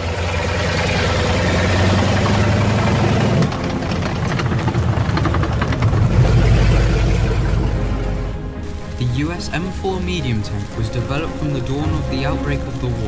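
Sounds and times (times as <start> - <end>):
fast rattling: 0.0 - 13.0
heavy tank engine running: 0.0 - 13.0.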